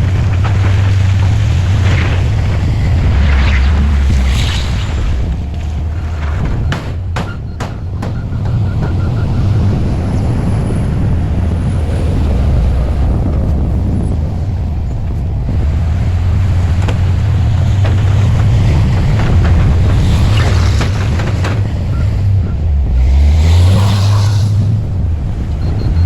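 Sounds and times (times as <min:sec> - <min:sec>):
diesel engine deep rumble: 0:00.0 - 0:26.0.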